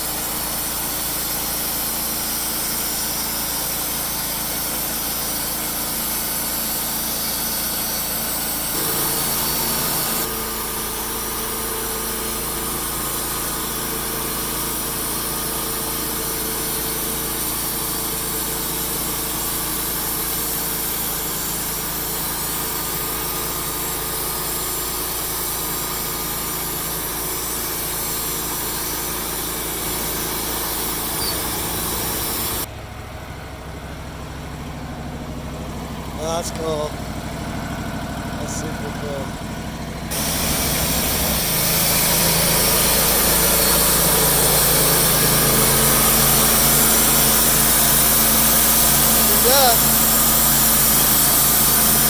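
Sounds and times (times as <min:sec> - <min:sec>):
band blade sawing log: 0:00.0 - 0:32.7, 0:40.1 - 0:52.0
sawmill engine running: 0:00.0 - 0:52.0.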